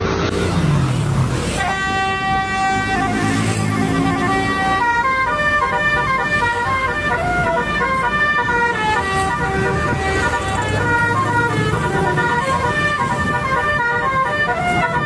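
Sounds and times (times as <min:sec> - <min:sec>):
multi-tone musical bus horn: 0:01.5 - 0:15.0.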